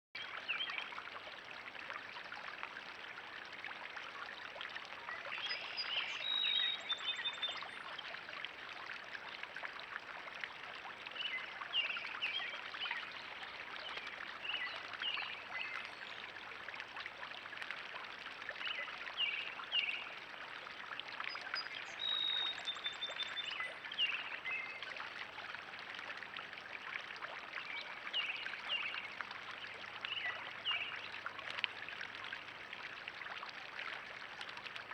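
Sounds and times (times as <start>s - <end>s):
water trickling: 0.2s - 34.9s.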